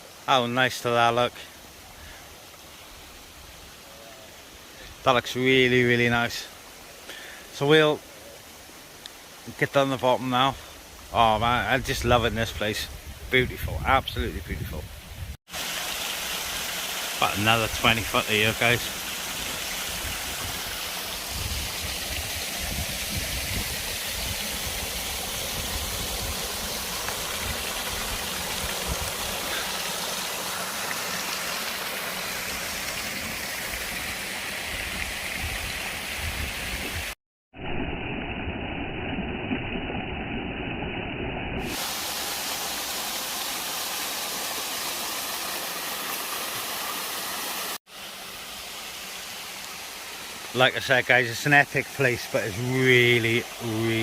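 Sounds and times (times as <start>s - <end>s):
waterfall hiss: 0.0s - 12.0s, 15.3s - 37.2s, 41.6s - 54.0s.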